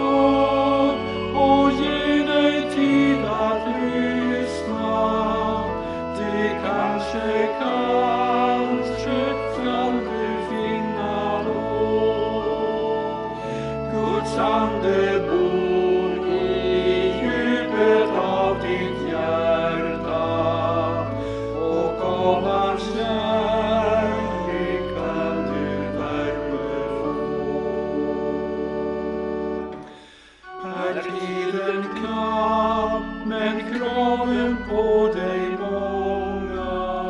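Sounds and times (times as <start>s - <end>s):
instrumental accompaniment: 0.0s - 37.0s
slow hymn singing: 0.0s - 37.0s.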